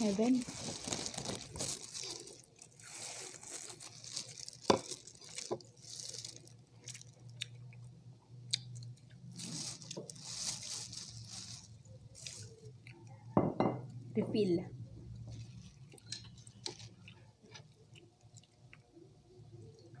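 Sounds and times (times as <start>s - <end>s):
faint low hum: 0.0s - 20.0s
people chewing: 0.7s - 13.2s, 15.2s - 19.0s.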